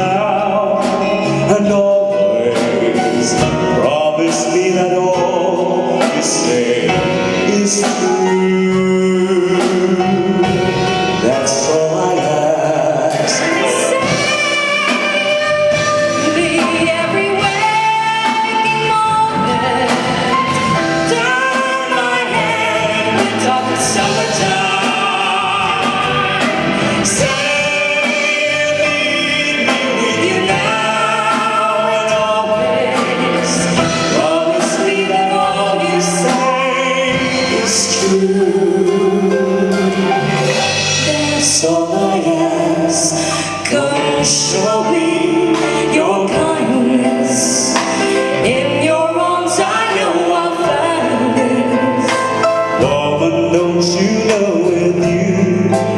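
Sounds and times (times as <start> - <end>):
duet singing: 0.0 - 55.9
live band music: 0.0 - 55.9.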